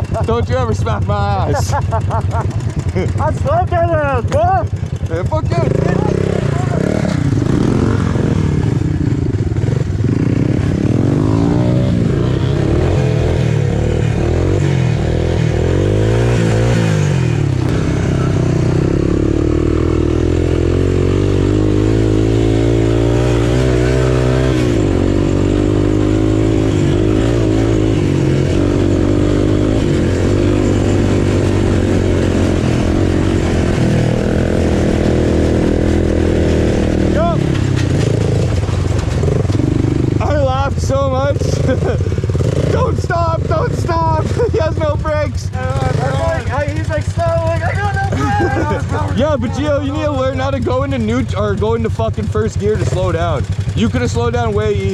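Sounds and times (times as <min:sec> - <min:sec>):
off-road motorcycle engine revving: 0:00.0 - 0:54.9.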